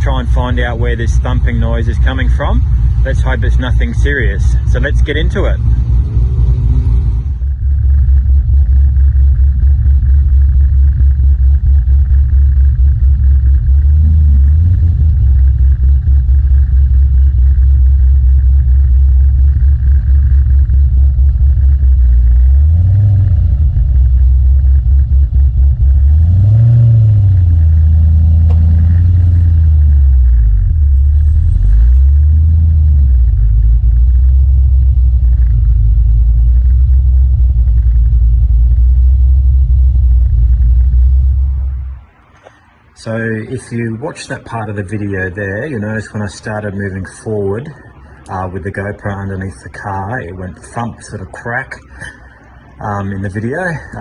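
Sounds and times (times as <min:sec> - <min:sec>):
car engine low rumble: 0:00.0 - 0:54.0.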